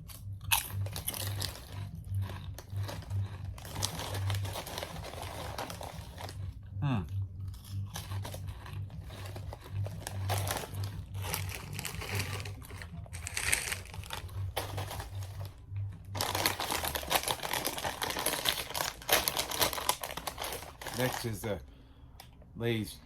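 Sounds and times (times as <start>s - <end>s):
plastic chip bag crinkling: 0.0s - 6.4s, 7.5s - 21.6s.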